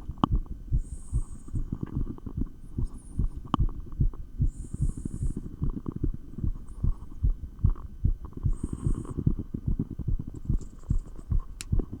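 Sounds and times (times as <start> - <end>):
fast heartbeat thumps: 0.0 - 12.0.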